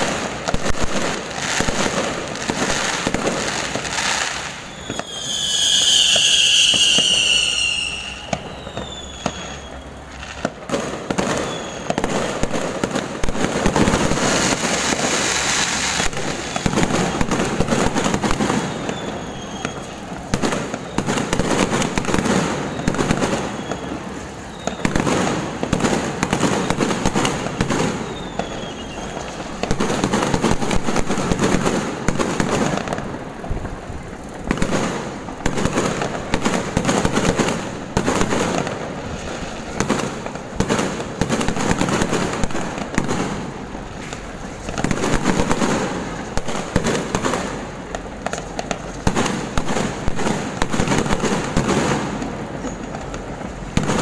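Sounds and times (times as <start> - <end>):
firework whistles: 0.0 - 54.0
fireworks bangs: 0.0 - 54.0
fireworks crackling: 0.0 - 54.0.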